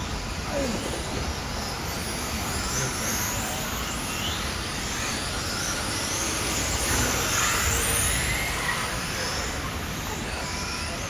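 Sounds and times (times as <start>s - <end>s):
electric rc car motors whining: 0.0s - 11.0s.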